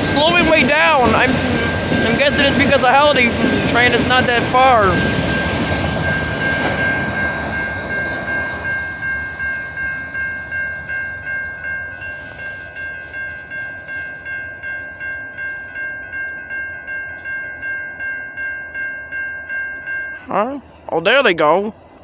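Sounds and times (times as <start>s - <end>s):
crossing warning bell ringing: 0.0s - 21.9s
freight train rumble: 0.0s - 22.0s.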